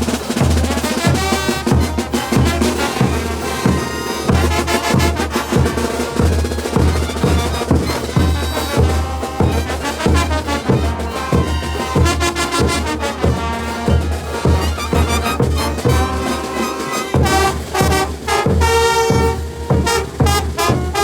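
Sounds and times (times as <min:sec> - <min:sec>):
brass band playing: 0:00.0 - 0:21.0
heavy drumbeat: 0:00.0 - 0:21.0.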